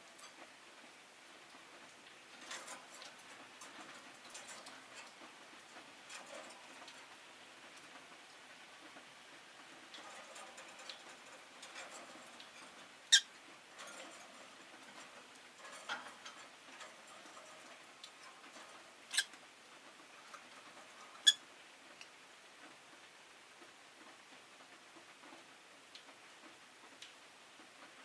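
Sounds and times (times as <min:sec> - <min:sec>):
birds moving in cage: 0:00.0 - 0:22.8.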